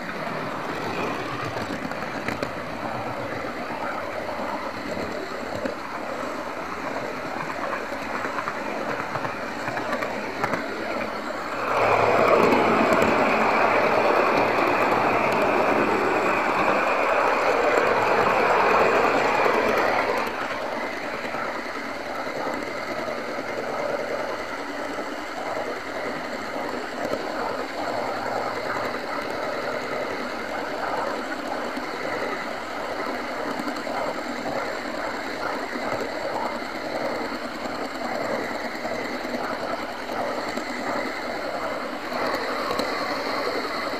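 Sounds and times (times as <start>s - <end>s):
model train rattling on track: 0.0s - 43.9s.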